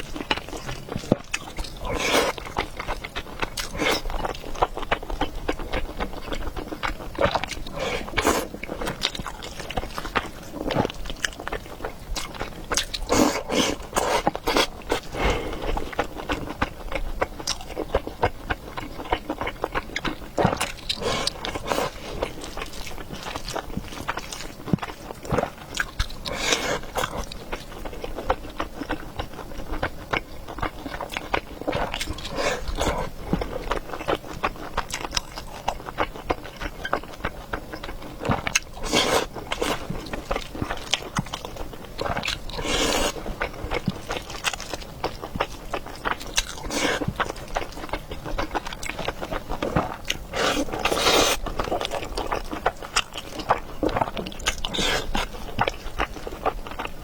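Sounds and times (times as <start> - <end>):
close chewing and biting: 0.0 - 57.0.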